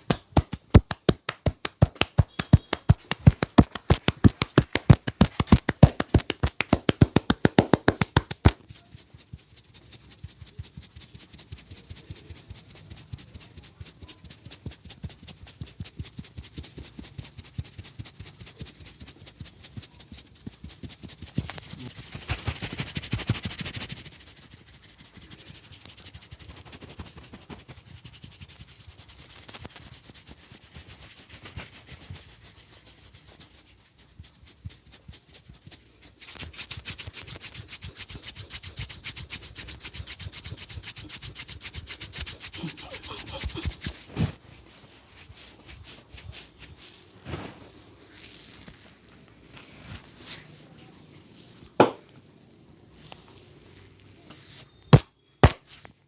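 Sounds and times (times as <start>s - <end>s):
hands rubbing over head: 0.0s - 54.8s.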